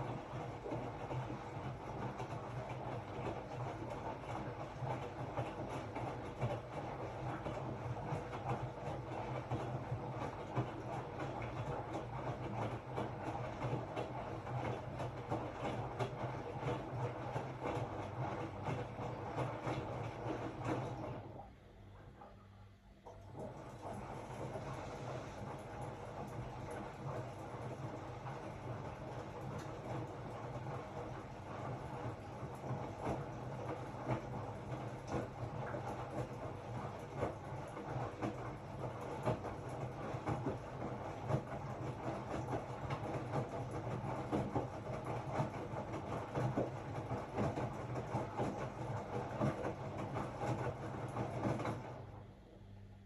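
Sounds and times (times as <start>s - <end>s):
washing machine motor hum: 0.0s - 53.0s.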